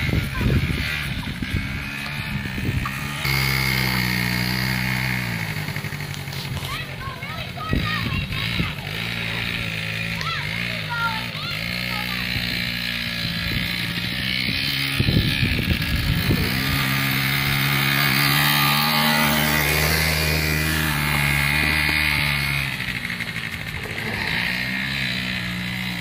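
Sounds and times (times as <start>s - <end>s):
low rumbling: 0.0s - 26.0s
quad engine running: 0.0s - 26.0s.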